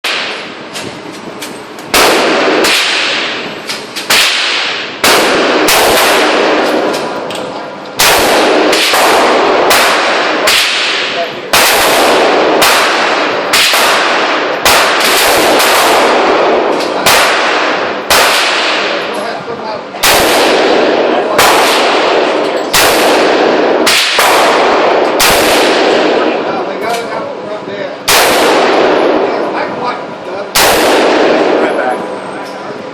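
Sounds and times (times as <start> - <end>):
rifle shots echoing: 0.0 - 0.6, 1.9 - 19.2, 20.0 - 26.6, 28.0 - 29.5, 30.5 - 31.9.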